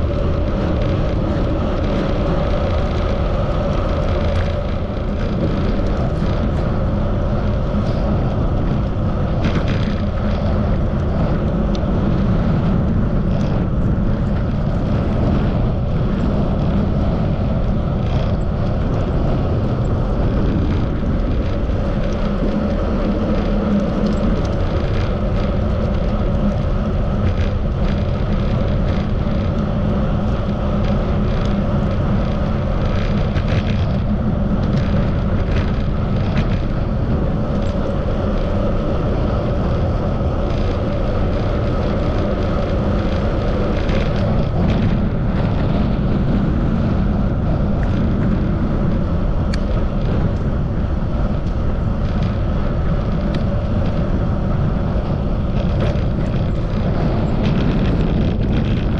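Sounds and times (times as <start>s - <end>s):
faint rattling ticks: 0.0s - 47.0s, 47.6s - 58.9s
wind and road rumble: 0.0s - 58.9s.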